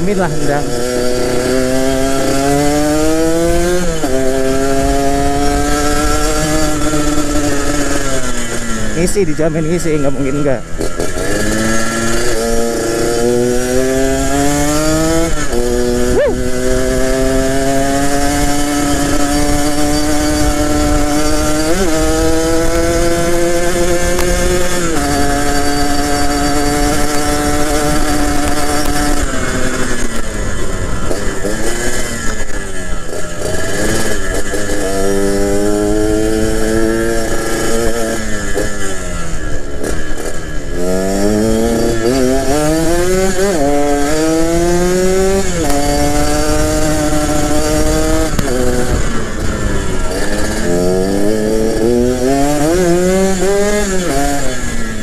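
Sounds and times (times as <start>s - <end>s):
motorcycle two-stroke engine: 0.0s - 55.0s.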